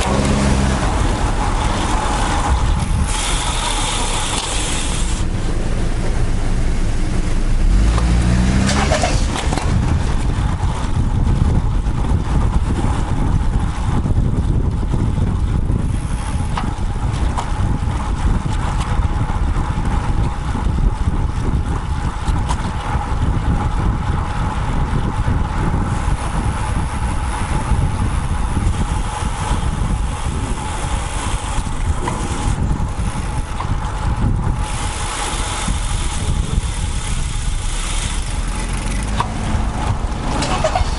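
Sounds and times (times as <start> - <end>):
road rolling noise: 0.0 - 40.9
wind on microphone: 0.0 - 40.9.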